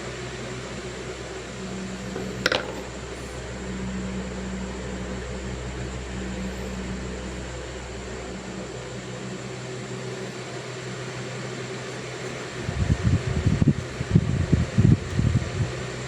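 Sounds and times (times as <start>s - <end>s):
fan-like white-noise hum: 0.0s - 16.0s.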